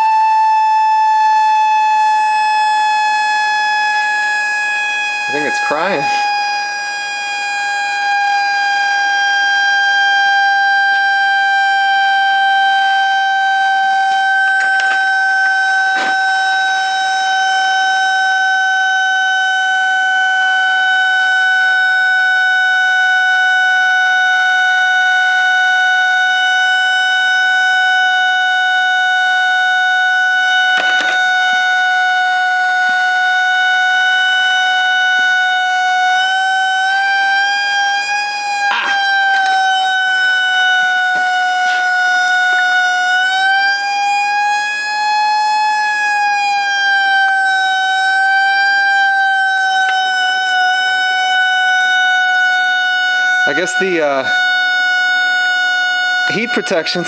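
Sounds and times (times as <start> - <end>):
buzzy siren-like electronic tone: 0.0 - 57.0.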